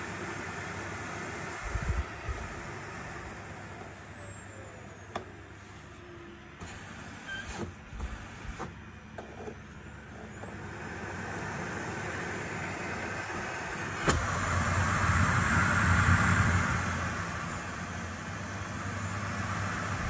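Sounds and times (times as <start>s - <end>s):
vacuum cleaner motor whining: 0.0s - 20.0s.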